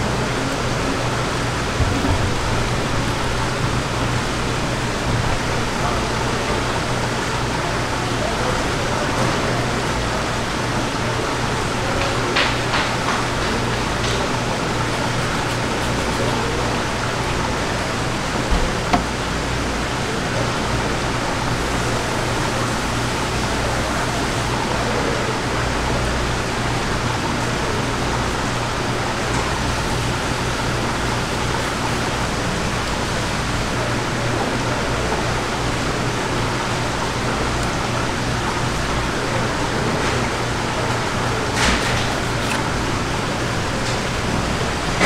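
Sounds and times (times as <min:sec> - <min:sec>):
fish market background noise: 0:00.0 - 0:45.0.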